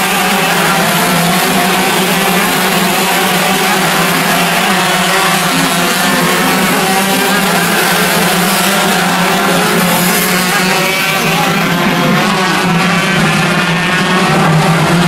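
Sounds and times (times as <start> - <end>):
kart engines at high revs: 0.0 - 15.0.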